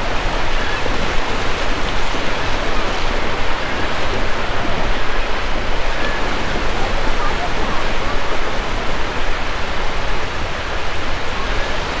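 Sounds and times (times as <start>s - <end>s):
waves breaking on a beach: 0.0s - 12.0s
wind noise on microphone: 0.0s - 12.0s.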